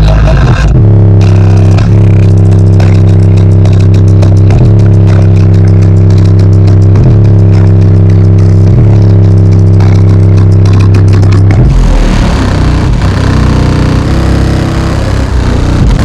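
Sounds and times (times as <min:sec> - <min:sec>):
distorted deep bass note: 0:00.0 - 0:16.0.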